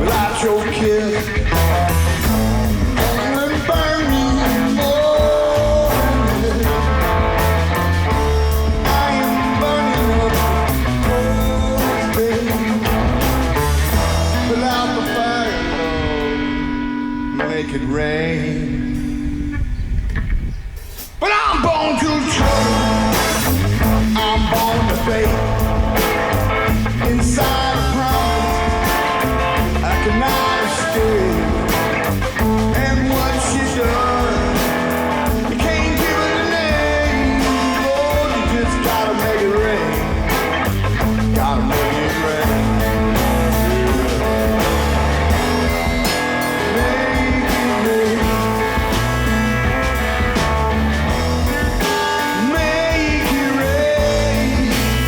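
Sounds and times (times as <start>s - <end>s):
drum beat: 0.0s - 15.4s, 22.4s - 55.0s
bass guitar: 0.0s - 55.0s
electric guitar: 0.0s - 55.0s.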